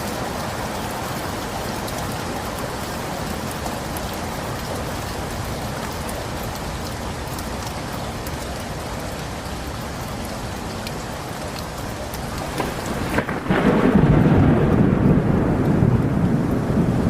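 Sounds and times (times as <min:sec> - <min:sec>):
rain drop ticks: 0:00.0 - 0:17.0
steady rain hiss: 0:00.0 - 0:17.0.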